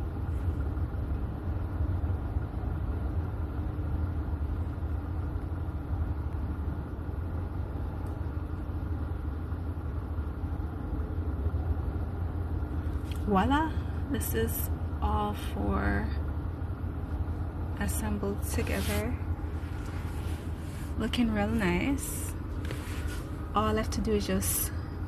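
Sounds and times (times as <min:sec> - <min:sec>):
machinery rumbling hum: 0:00.0 - 0:25.0.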